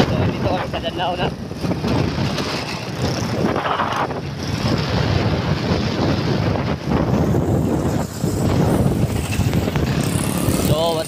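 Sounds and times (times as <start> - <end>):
motorcycle engine running: 0.0 - 11.0
road noise: 0.0 - 11.0
wind buffeting microphone: 0.0 - 11.0.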